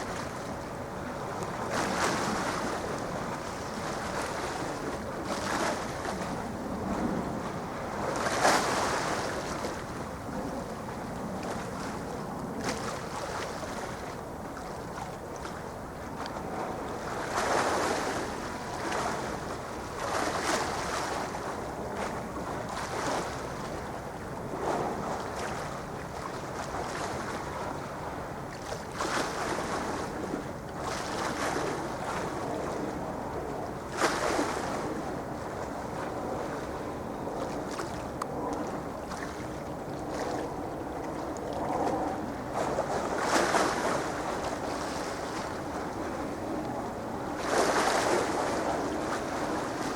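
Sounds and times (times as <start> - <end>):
sea waves washing in: 0.0 - 49.9
wind noise on microphone: 0.0 - 49.9.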